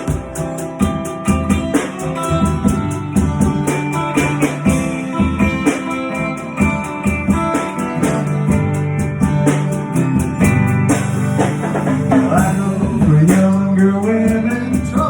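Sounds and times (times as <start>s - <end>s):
guitars playing: 0.0s - 15.0s
steady drum beat: 0.0s - 15.0s.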